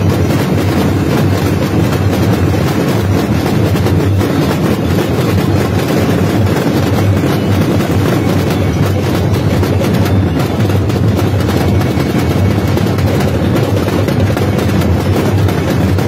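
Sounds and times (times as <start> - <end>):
marching snare drums playing: 0.0 - 16.0.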